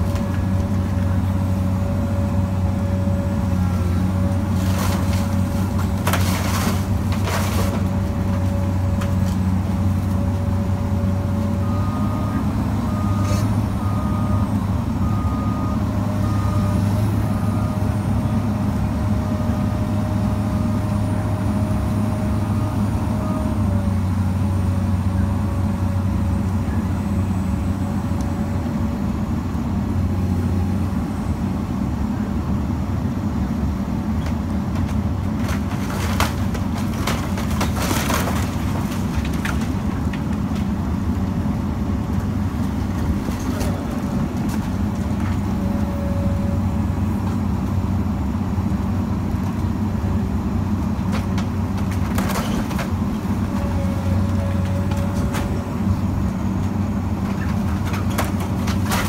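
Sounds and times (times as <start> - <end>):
constant machine whine: 0.0 - 59.0
excavator diesel engine running: 0.0 - 59.0.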